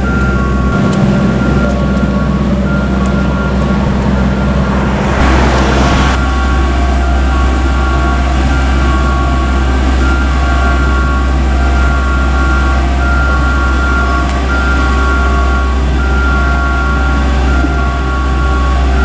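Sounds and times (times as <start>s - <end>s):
low machine drone: 0.0s - 19.0s
two-note electronic warning tune: 0.0s - 19.0s.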